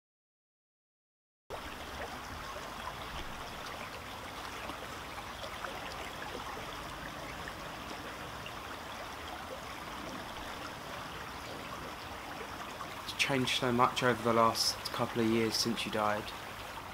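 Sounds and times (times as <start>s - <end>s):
small stream flowing: 1.5s - 16.9s.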